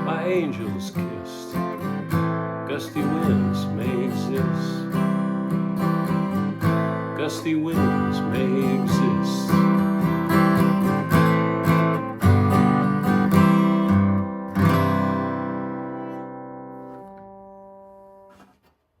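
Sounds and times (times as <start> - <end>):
acoustic guitar strumming: 0.0 - 18.8.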